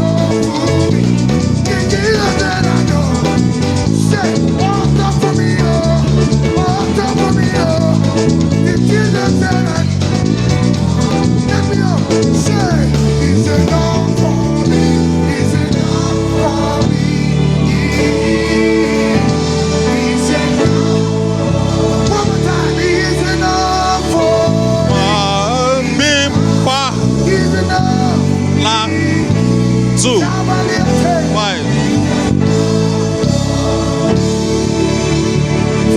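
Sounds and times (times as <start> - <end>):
electric bass: 0.0 - 35.9
gospel band playing live: 0.0 - 35.9.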